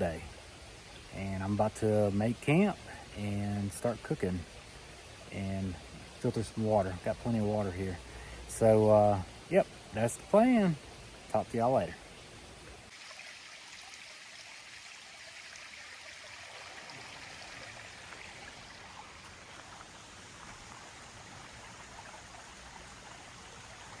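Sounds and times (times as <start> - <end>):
stream rushing over cascades: 0.0 - 24.0.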